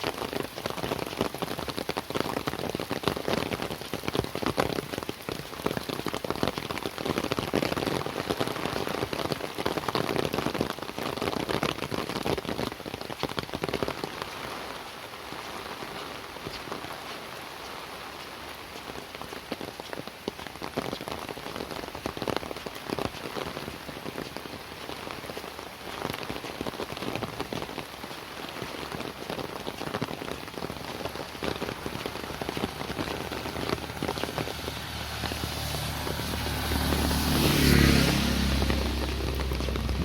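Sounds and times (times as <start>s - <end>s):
rain pattering: 0.0s - 40.0s
vehicle approaching on wet road: 0.0s - 40.0s.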